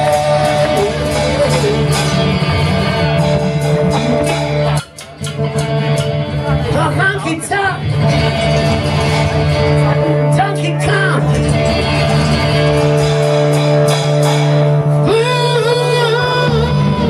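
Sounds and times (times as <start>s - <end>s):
guitars playing sustained chords: 0.0s - 17.0s.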